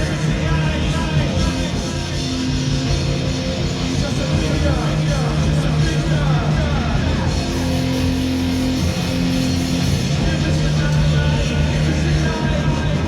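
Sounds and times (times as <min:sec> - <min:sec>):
distorted electric guitar: 0:00.0 - 0:13.0
live rock music: 0:00.0 - 0:13.0.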